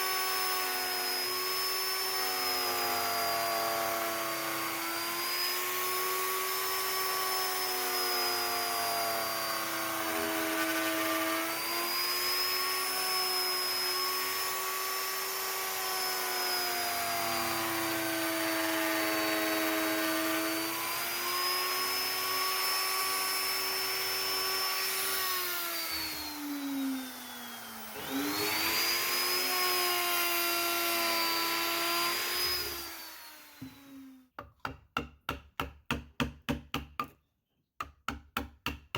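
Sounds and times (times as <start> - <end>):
power carving tool whining on wood: 0.0 - 34.2.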